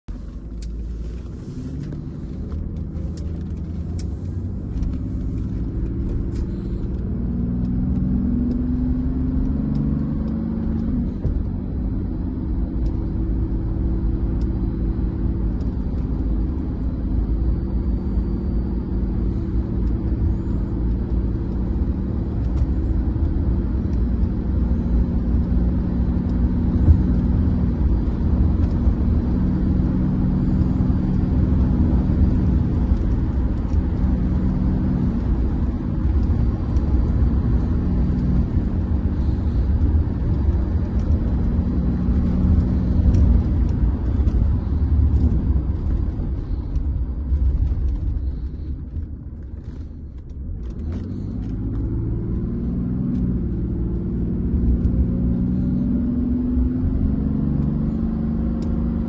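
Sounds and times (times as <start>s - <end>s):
diesel car engine accelerating: 0.0s - 59.0s
low road rumble: 0.0s - 59.0s.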